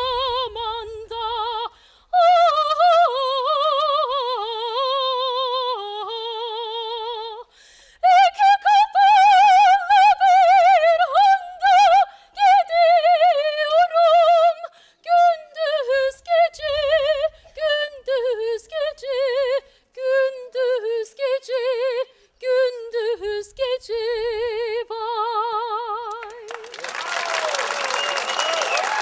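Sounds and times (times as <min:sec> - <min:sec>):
woman singing operatic folk song: 0:00.0 - 0:26.5.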